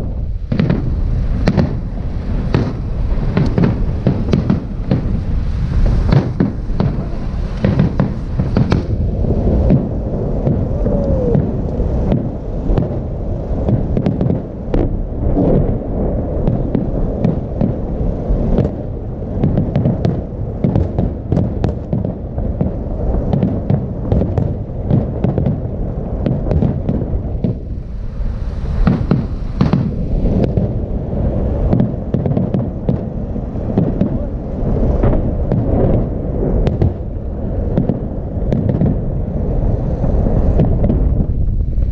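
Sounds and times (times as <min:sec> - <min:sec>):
continuous low rumble: 0:00.0 - 0:41.9
fireworks bursting bangs and crackles: 0:00.0 - 0:41.9.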